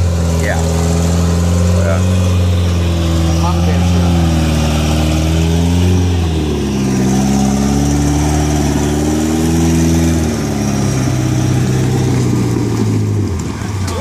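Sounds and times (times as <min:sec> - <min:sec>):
truck engine under load: 0:00.0 - 0:14.0.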